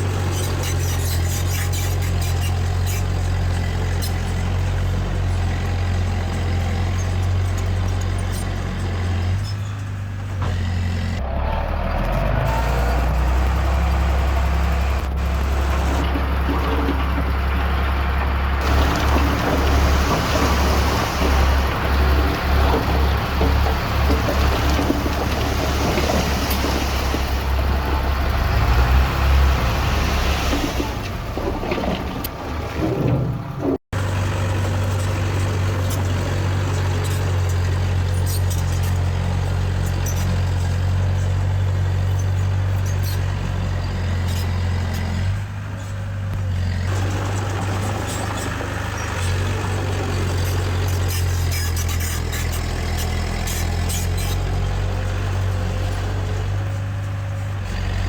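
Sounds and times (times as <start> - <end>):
rushing grinding noise: 0.0 - 9.8, 10.4 - 40.4, 46.6 - 58.0
heavy diesel machinery engine hum: 0.0 - 58.0.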